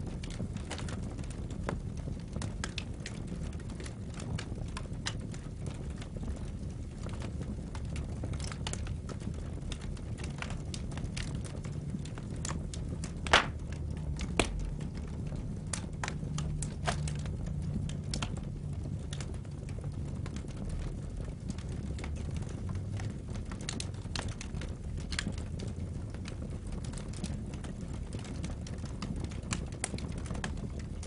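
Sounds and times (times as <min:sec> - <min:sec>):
burning logs crackling and popping: 0:00.0 - 0:31.0
low rumble of flames: 0:00.0 - 0:31.0.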